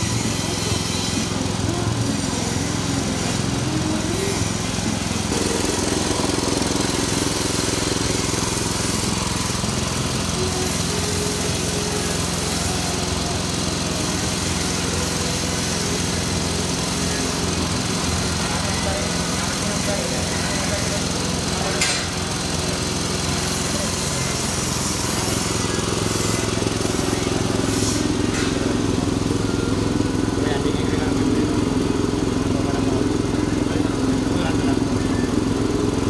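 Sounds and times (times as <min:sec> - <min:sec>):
small petrol engine running: 0:00.0 - 0:36.0.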